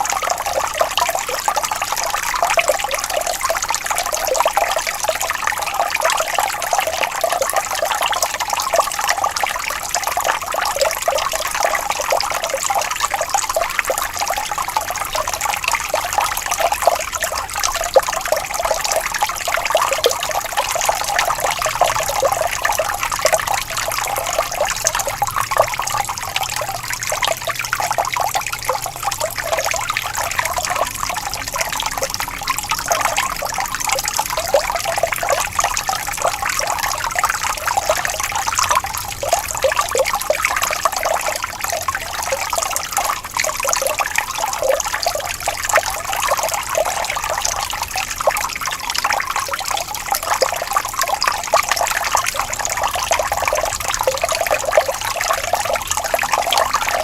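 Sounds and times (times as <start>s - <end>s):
stream water flowing over stones: 0.0s - 57.0s.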